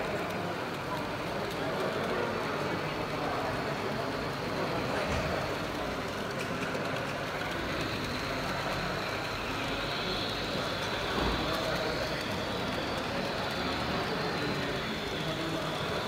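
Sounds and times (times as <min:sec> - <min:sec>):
hall background noise: 0:00.0 - 0:16.0
model train running on track: 0:00.0 - 0:16.0.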